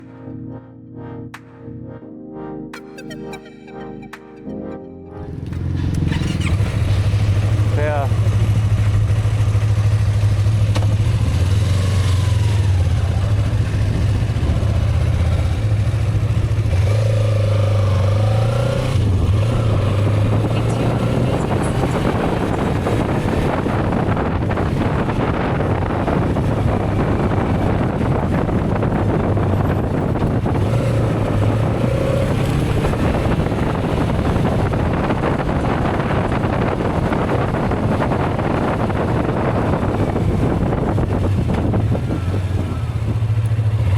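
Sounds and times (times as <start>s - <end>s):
motorcycle engine running: 5.2s - 43.9s
wind noise on microphone: 5.2s - 43.9s.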